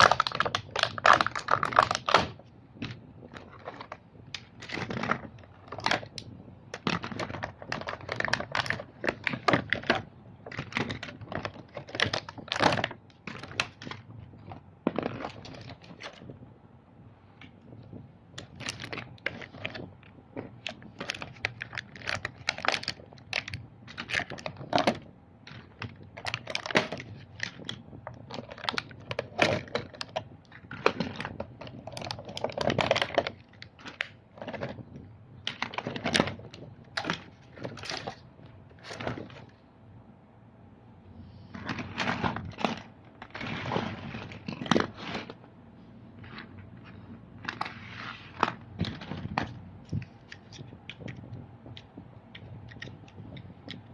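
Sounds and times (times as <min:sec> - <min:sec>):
plastic toys clicking and clattering: 0:00.0 - 0:16.4, 0:17.4 - 0:39.6, 0:41.5 - 0:45.4, 0:46.2 - 0:53.9.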